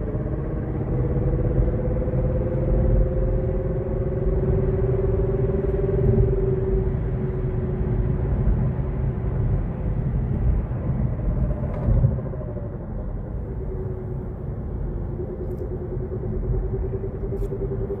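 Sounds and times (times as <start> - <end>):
road rumble: 0.0 - 18.0.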